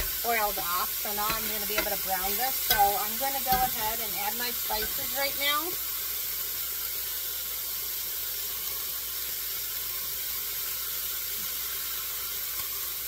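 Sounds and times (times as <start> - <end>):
meat sizzling in a hot pan: 0.0 - 13.0.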